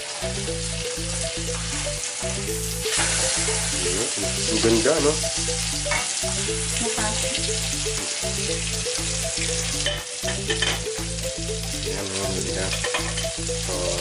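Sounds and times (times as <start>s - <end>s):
fish sizzling in a saucepan: 0.0s - 14.0s
melody and bass music: 0.0s - 14.0s.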